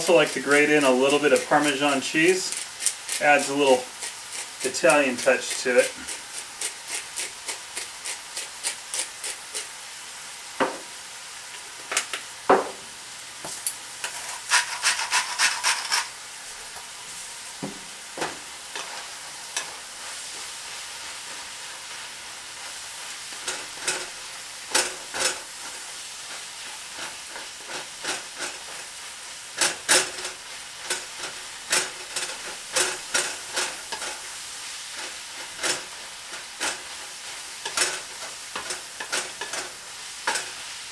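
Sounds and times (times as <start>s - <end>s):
wooden spoon scraping a pan: 0.0s - 9.7s, 14.0s - 16.2s, 18.2s - 29.0s, 29.6s - 40.9s
food sizzling in a frying pan: 0.0s - 40.9s.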